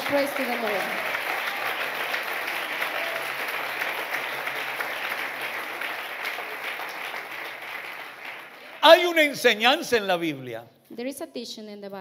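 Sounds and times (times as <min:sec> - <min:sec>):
congregation applauding: 0:00.0 - 0:10.6.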